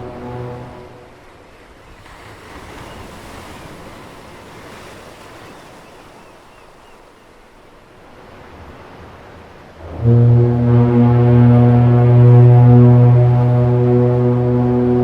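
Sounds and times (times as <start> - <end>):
sea surf washing: 0.0 - 15.0
wind: 0.0 - 15.0.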